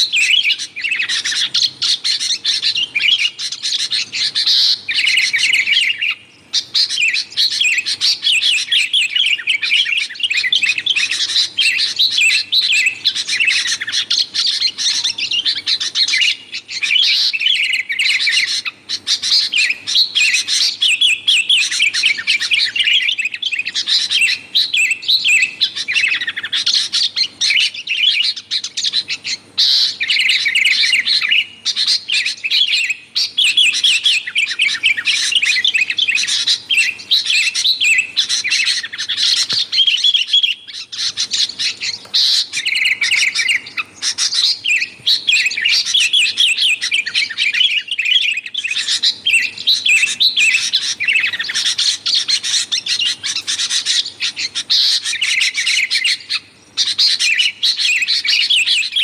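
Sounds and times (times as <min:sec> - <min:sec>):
bird chirping and warbling: 0:00.0 - 0:59.0.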